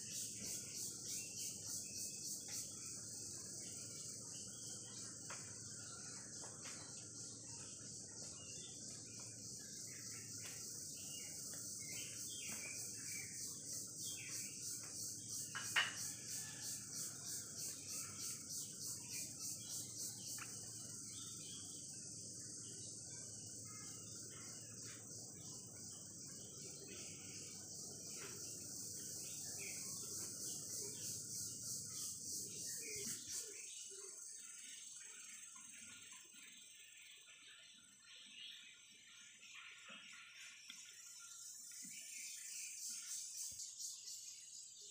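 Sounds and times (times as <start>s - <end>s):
bird chirps: 0.0s - 44.9s
insect chorus: 0.0s - 44.9s.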